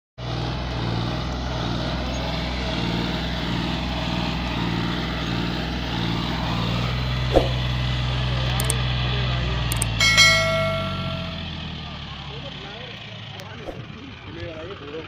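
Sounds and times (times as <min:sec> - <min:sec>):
tractor diesel engine under load: 0:00.2 - 0:15.0.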